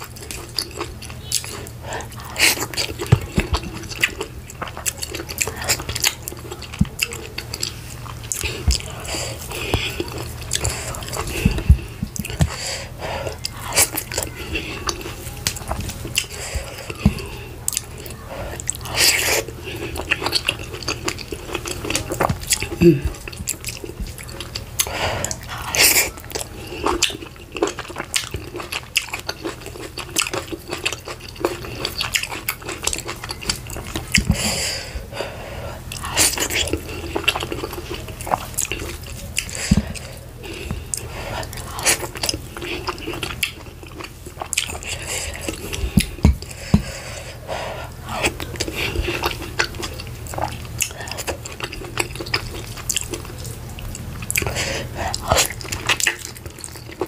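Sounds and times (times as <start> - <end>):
wet chewing and lip smacks: 0.0 - 34.6, 35.8 - 57.0
steady low hum: 0.0 - 57.0.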